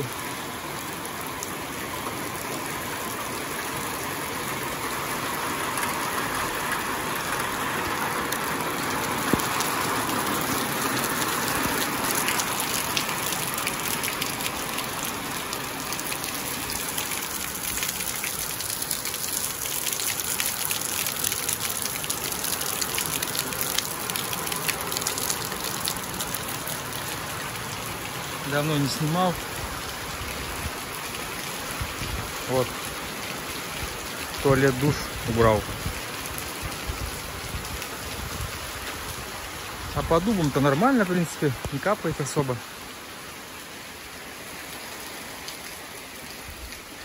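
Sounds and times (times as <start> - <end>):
rain hissing on concrete: 0.0 - 47.0.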